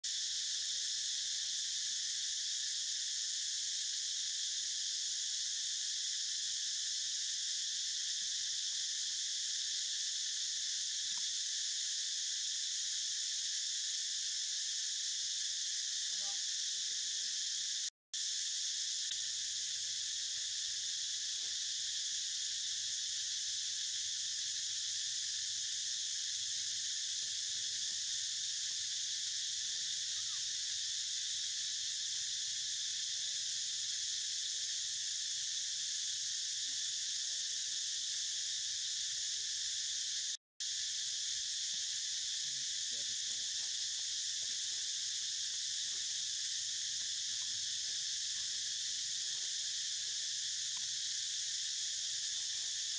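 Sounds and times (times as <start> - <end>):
insects buzzing: 0.0 - 52.9.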